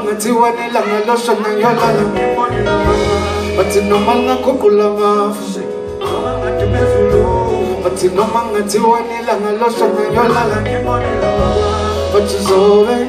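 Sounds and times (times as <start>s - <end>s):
electric guitar: 0.0s - 13.0s
men singing: 0.0s - 13.0s
bass guitar: 1.3s - 13.0s
drums: 1.5s - 13.0s.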